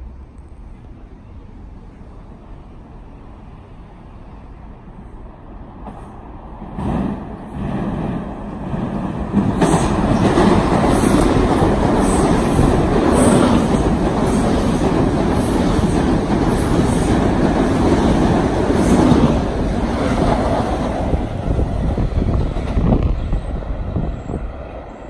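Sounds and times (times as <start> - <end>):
train passing with rushing wheels: 0.0 - 25.0.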